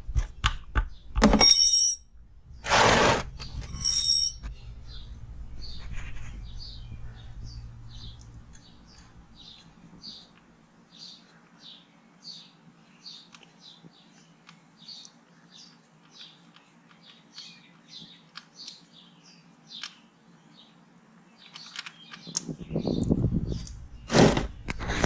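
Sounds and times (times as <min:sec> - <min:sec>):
bird chirping: 0:03.4 - 0:24.7.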